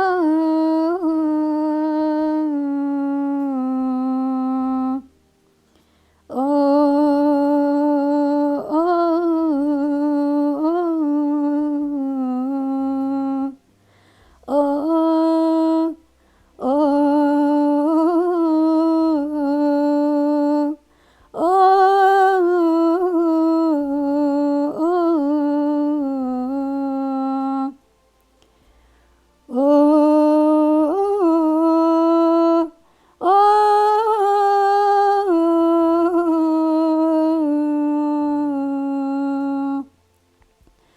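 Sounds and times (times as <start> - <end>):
person humming melodic phrases: 0.0 - 5.2, 5.8 - 13.6, 14.5 - 20.8, 21.4 - 27.8, 29.5 - 40.0.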